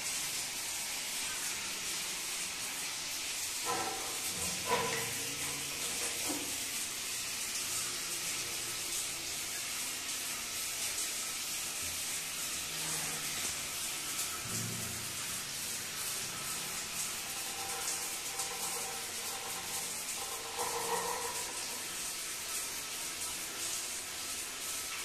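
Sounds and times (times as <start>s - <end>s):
water spraying from shower head: 2.0s - 9.4s, 10.7s - 25.0s.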